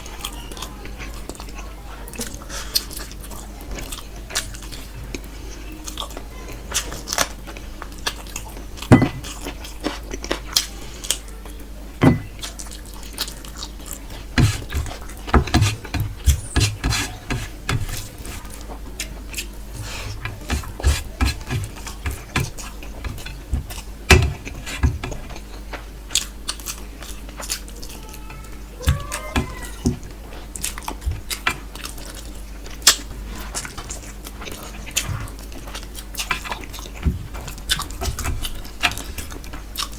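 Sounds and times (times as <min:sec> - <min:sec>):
person chewing with wet mouth sounds: 0:00.0 - 0:39.9.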